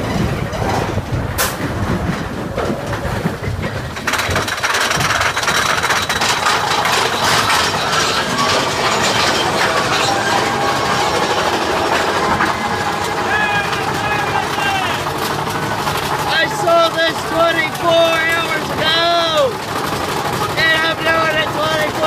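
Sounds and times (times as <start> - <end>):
roller coaster cars rattling: 0.0 - 22.0.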